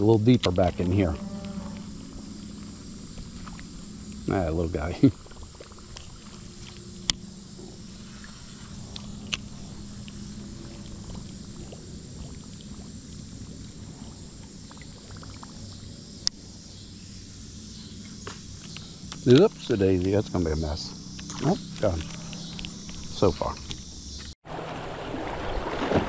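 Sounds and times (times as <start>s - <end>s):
gentle water lapping: 0.0s - 23.5s, 24.5s - 26.0s
faint insect buzz: 0.0s - 24.4s.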